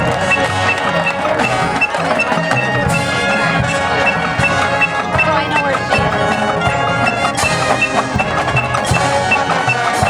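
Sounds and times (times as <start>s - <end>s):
drums: 0.0s - 10.0s
marching band playing: 0.0s - 10.0s.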